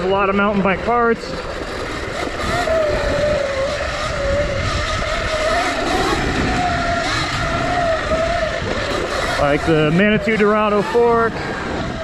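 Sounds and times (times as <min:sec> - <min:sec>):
electric motor whining: 0:00.0 - 0:12.0
wind rushing: 0:01.4 - 0:12.0.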